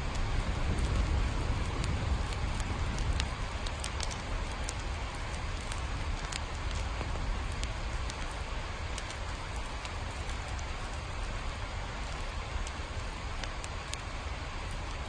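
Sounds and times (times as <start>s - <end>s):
low steady rumble: 0.0s - 15.0s
sharp drip ticks: 0.0s - 15.0s
steady rain falling: 0.0s - 15.0s.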